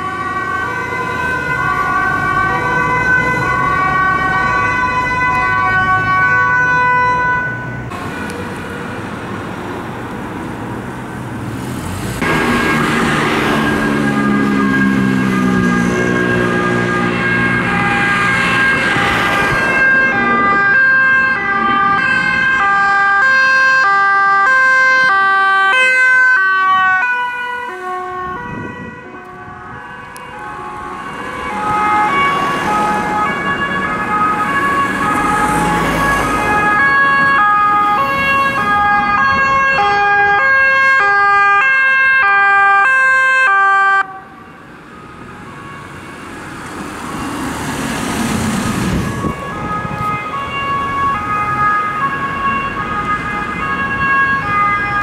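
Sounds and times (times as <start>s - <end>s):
two-tone emergency sirens: 0.0s - 9.5s, 12.2s - 55.0s
road noise: 0.0s - 55.0s.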